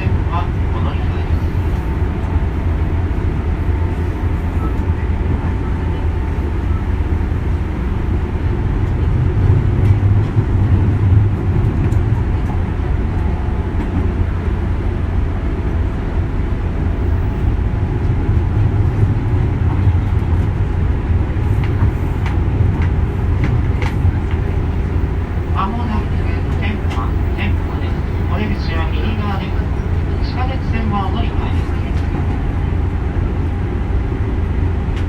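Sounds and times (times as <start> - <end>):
train wheel and motor rumble: 0.0 - 35.0.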